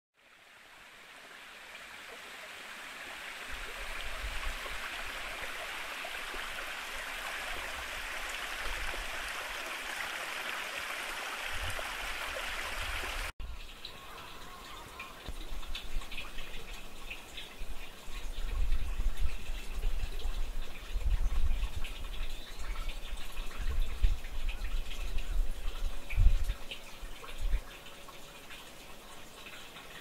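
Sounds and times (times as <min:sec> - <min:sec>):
stream flowing: 0:00.2 - 0:30.0.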